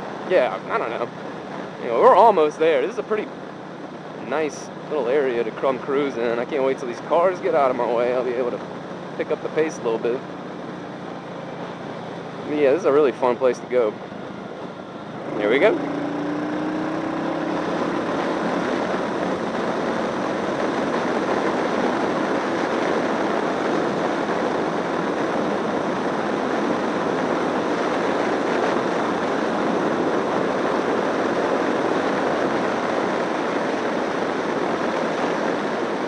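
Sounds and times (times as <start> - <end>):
motorcycle engine: 0.0 - 13.3, 13.9 - 36.0
wind and road noise: 0.0 - 36.0.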